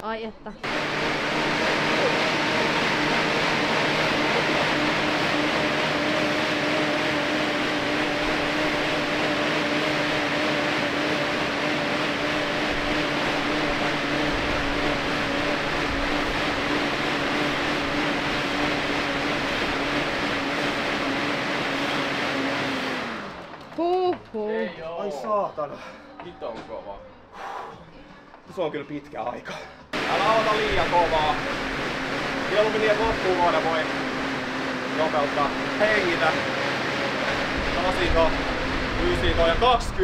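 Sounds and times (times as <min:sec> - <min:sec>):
exercise bike fan whooshing: 0:00.6 - 0:23.9, 0:30.0 - 0:40.0.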